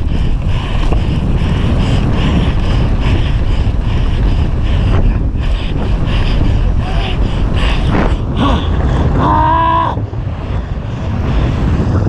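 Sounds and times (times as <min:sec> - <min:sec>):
bike tyres rumbling over dirt: 0:00.0 - 0:12.0
wind buffeting microphone: 0:00.0 - 0:12.0.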